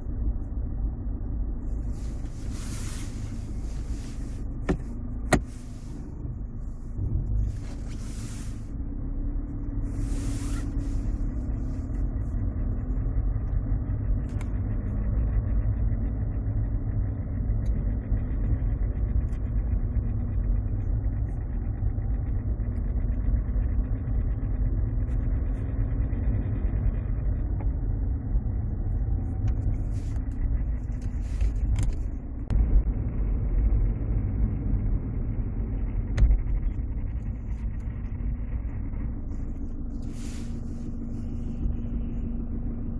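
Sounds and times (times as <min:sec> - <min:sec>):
diesel engine rumble in cabin: 0:00.0 - 0:42.9
wavering droning tone: 0:00.0 - 0:42.9.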